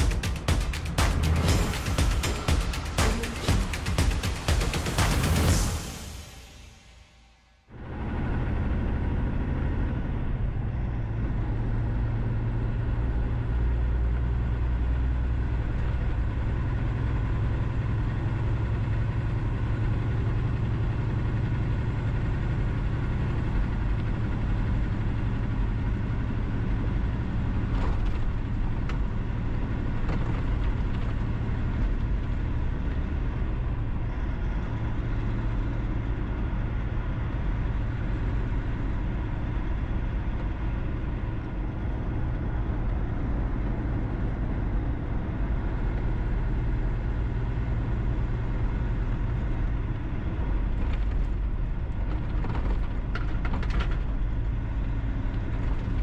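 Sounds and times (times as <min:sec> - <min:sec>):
vehicle engine and tyres rumbling: 0:00.0 - 0:56.0.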